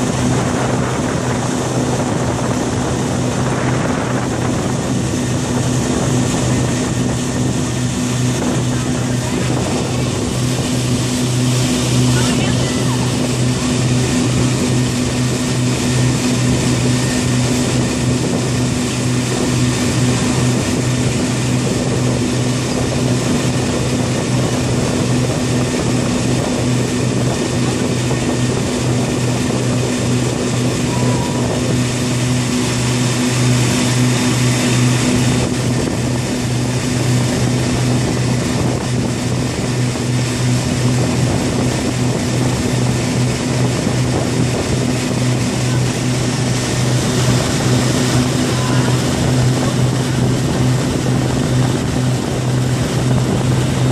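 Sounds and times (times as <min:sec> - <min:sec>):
churning wake rushing: 0:00.0 - 0:53.9
motorboat engine humming: 0:00.0 - 0:53.9.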